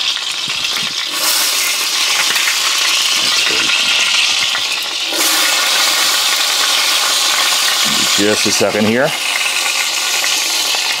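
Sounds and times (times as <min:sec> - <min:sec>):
meat sizzling in fat: 0:00.0 - 0:11.0.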